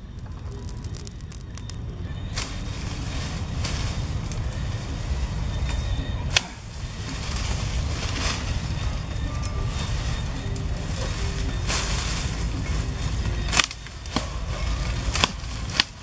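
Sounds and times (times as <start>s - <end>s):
branch snapping: 0.0s - 4.8s, 5.7s - 16.0s
leafy branches rustling: 0.0s - 16.0s
steady low rumble: 0.0s - 16.0s.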